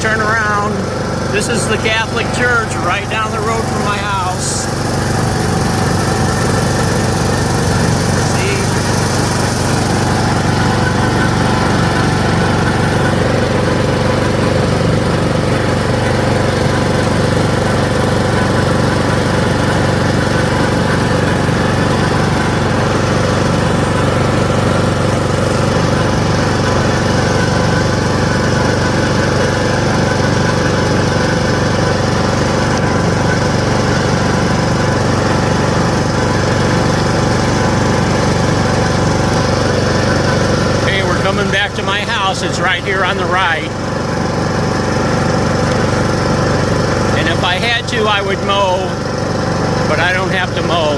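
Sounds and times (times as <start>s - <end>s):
riding lawn mower engine droning: 0.0s - 50.9s.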